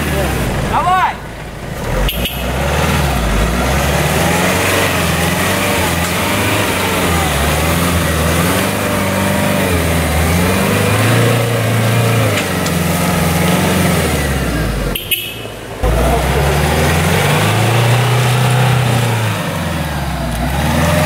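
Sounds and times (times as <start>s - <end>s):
suv engine revving: 0.0s - 21.0s.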